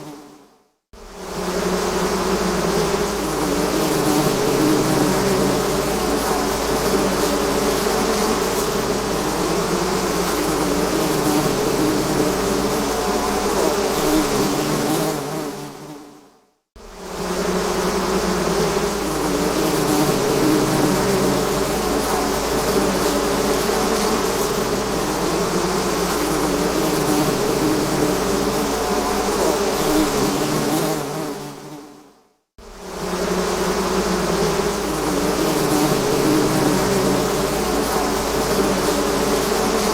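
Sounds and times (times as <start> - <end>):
bees buzzing: 1.0 - 15.8, 16.8 - 31.9, 32.6 - 39.9.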